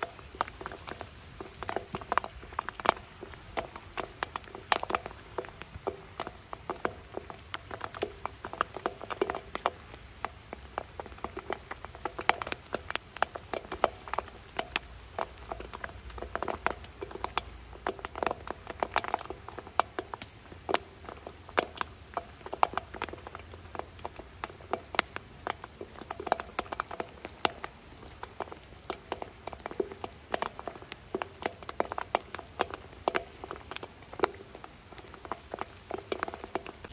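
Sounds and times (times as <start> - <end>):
popcorn popping: 0.2 - 36.9.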